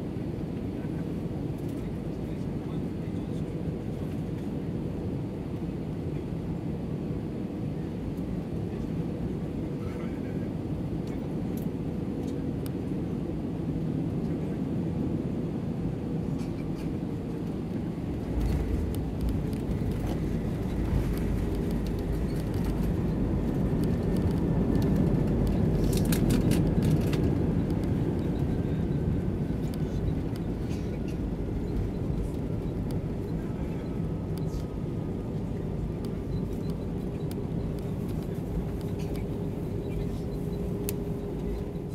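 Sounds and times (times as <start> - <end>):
aircraft engine noise: 0.0 - 41.9
low runway rumble: 0.0 - 41.9.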